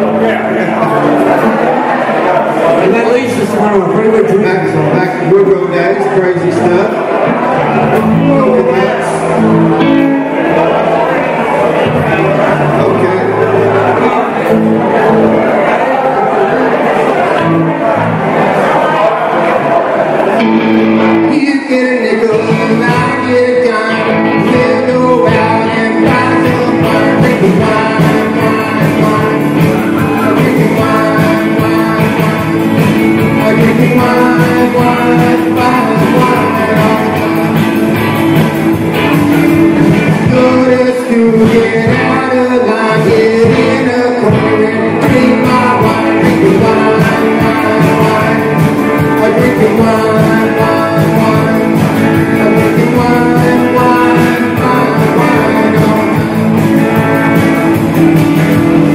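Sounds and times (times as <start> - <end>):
person singing: 0.0 - 58.9
rock and roll band playing live: 0.0 - 58.9.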